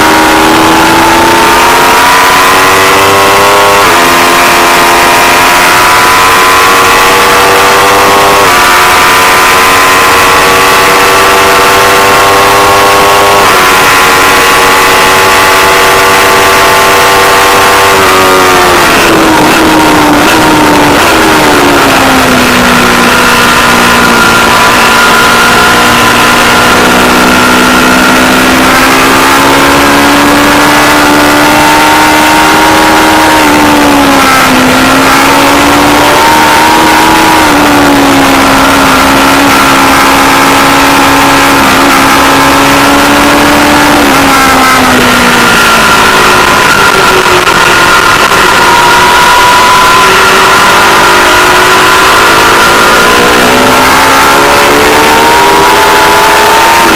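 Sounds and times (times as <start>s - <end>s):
motorcycle engine accelerating hard: 0.0s - 56.9s.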